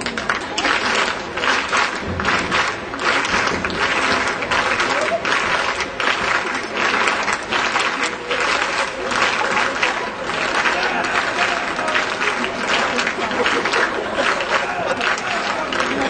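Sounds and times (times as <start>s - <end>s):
large crowd applauding: 0.0s - 16.0s.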